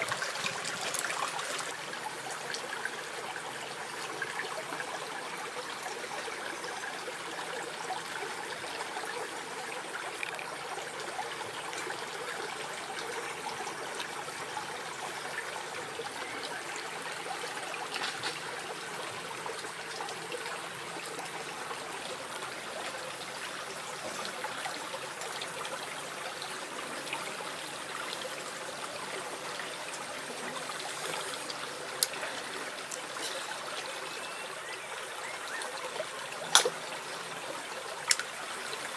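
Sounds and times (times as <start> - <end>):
stream trickling over rocks: 0.0 - 38.9.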